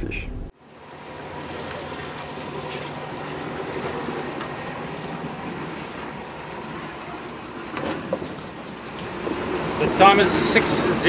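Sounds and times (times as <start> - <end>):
boat engine running: 0.0 - 11.0
wind: 0.0 - 11.0
sea wash: 0.8 - 11.0.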